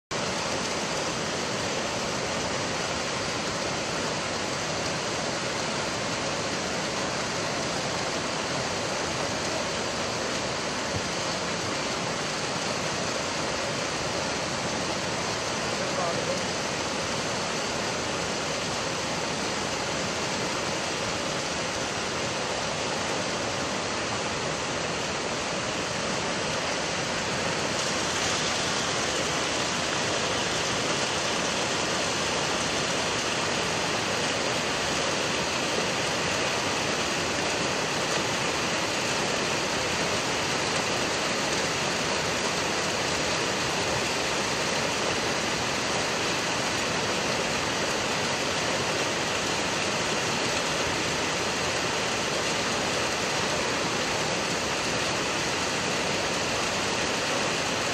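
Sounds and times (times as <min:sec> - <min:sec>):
floodwater rushing: 0:00.1 - 0:57.9.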